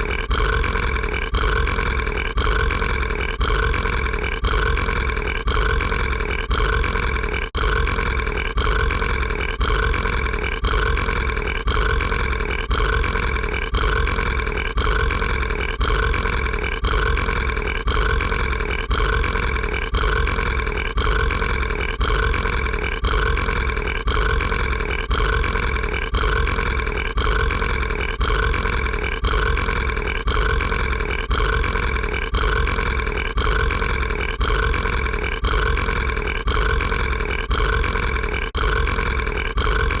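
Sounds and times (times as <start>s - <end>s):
cartoon character burping: 0.0s - 40.0s.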